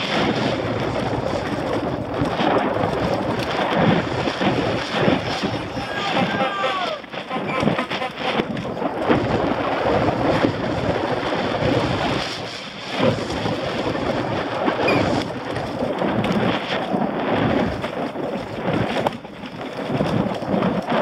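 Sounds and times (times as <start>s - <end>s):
tyres rumbling on loose dirt: 0.0s - 21.0s
wind buffeting microphone: 0.0s - 21.0s.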